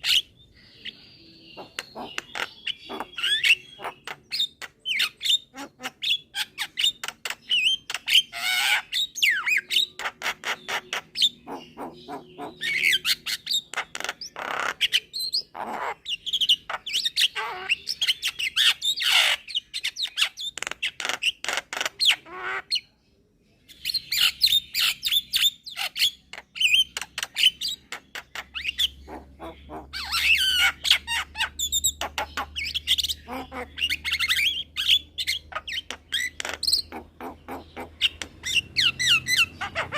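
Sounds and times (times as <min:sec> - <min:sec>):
myna chattering and squawking: 0:00.0 - 0:22.8, 0:24.1 - 0:39.9.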